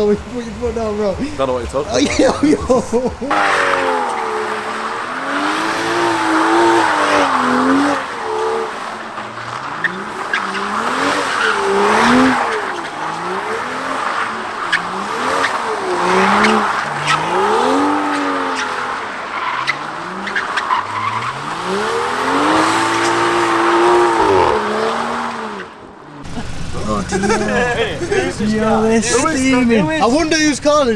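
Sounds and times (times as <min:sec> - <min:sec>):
tyres squealing: 0:00.0 - 0:25.6, 0:26.2 - 0:30.9
car engine revving: 0:00.0 - 0:30.9.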